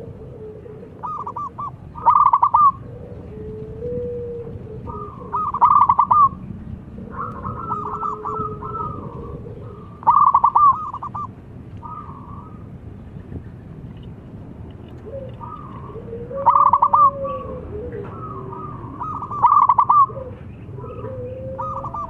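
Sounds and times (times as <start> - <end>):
dove cooing: 0.0 - 12.7, 15.0 - 22.0.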